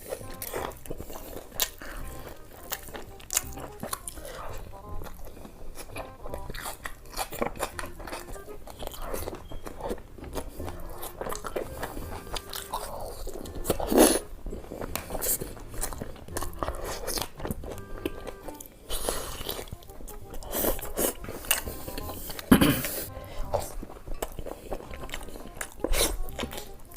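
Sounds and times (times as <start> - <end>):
crunchy bites and chewing: 0.0 - 26.9.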